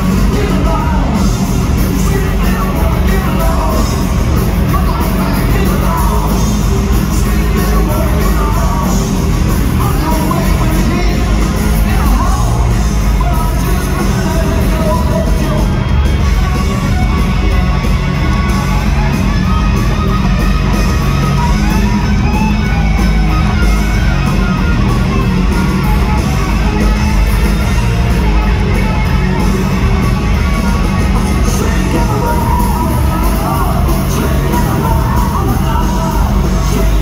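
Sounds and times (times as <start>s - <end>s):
distorted electric guitar: 0.0s - 37.0s
hard rock band playing live: 0.0s - 37.0s.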